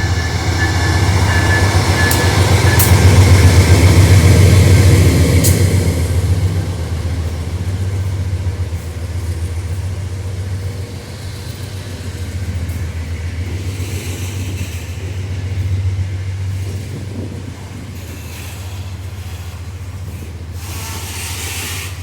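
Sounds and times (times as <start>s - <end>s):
diesel locomotive engine drone: 0.0s - 22.0s
freight train rumble: 0.0s - 22.0s.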